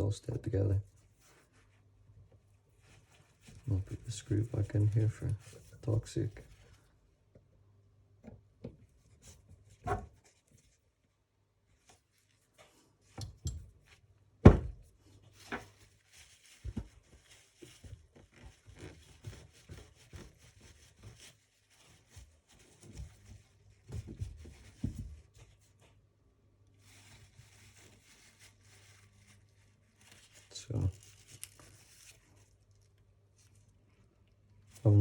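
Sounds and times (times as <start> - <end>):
light rubbing and rustling: 0.0 - 7.1, 8.2 - 14.1, 14.7 - 35.0.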